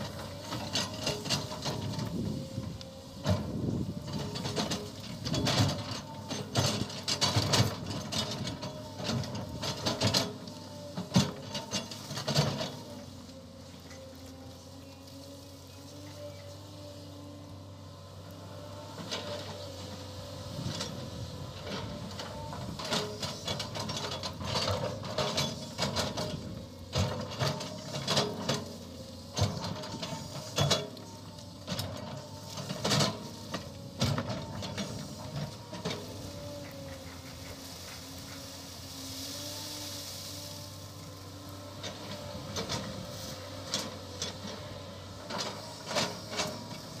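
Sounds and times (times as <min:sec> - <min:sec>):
excavator engine and hydraulics: 0:00.0 - 0:47.0.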